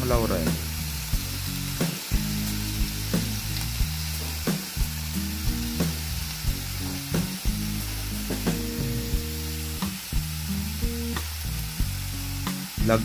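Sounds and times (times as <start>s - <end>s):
meat sizzling in a pan: 0.0s - 13.0s
music with plucked beat: 0.0s - 13.0s.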